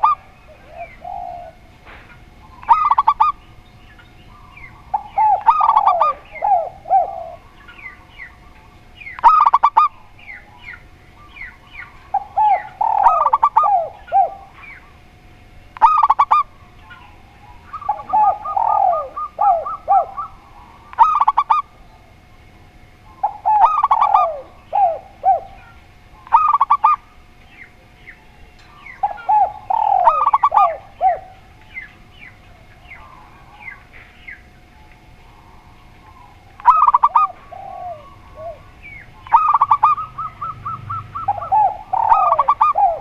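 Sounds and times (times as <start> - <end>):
doves cooing: 0.0 - 43.0.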